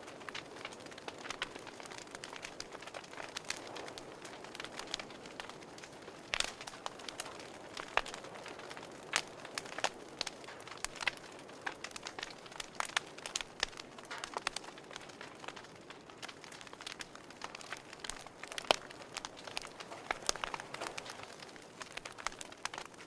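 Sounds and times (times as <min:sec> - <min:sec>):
fire crackling and popping: 0:00.0 - 0:23.0
soft steady hiss: 0:00.0 - 0:23.0.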